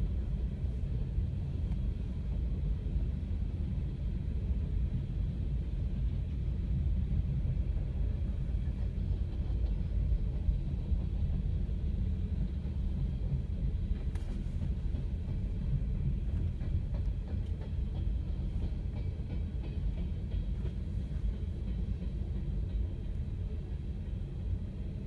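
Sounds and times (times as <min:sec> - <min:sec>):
train rumbling over crossing: 0:00.0 - 0:25.0.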